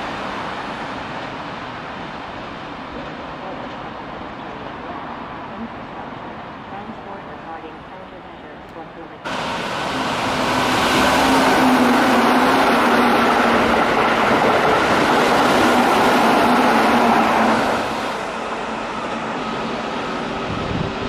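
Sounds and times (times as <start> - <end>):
train wheels rushing on rails: 0.0 - 7.4, 9.2 - 21.0
low train hum: 0.0 - 21.0.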